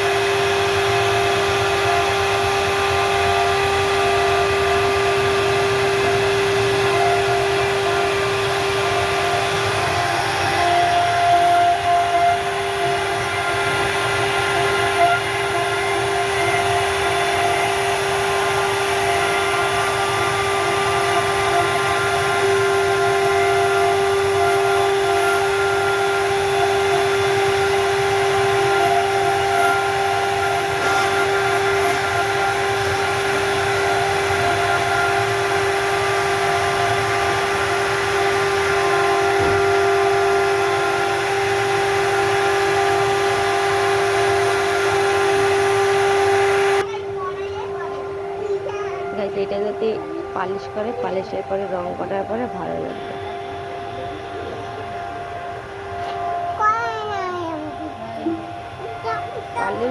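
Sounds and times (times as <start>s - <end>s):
router spindle high whine: 0.0s - 59.9s.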